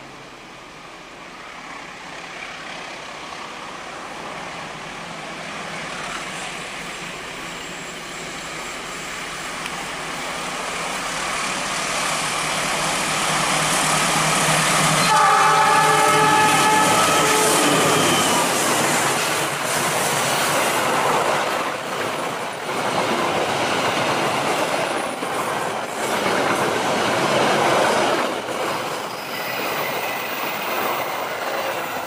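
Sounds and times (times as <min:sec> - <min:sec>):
train wheels rumbling: 0:01.3 - 0:32.0.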